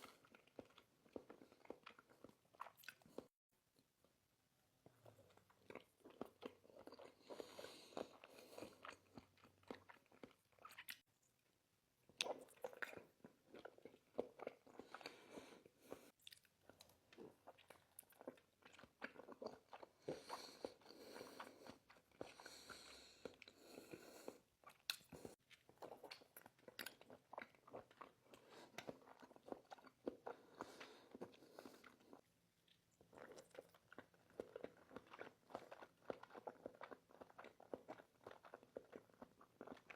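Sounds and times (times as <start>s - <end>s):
person chewing wet smacking: 0.0s - 3.3s, 4.8s - 11.1s, 12.1s - 15.2s, 15.8s - 39.9s.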